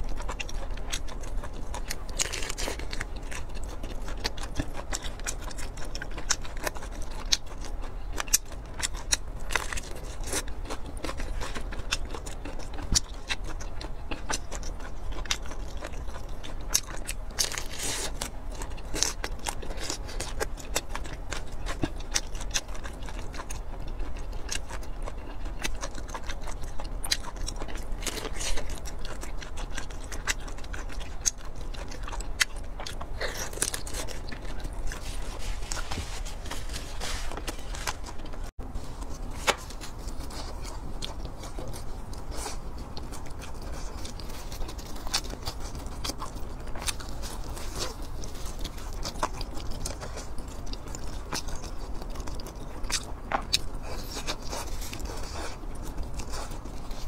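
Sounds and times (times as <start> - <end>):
person chewing meat: 0.0 - 57.0.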